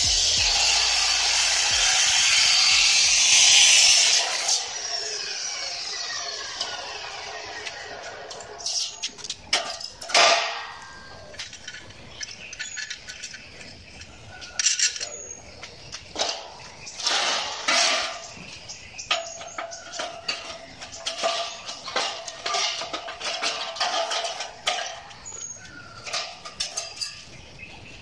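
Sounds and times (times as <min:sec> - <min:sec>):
metal tubes clanking and scraping: 0:00.0 - 0:27.4.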